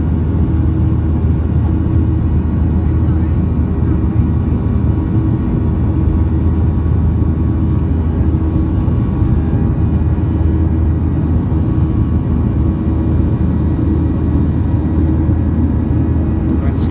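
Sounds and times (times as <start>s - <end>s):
airplane cabin engine rumble: 0.0s - 16.9s.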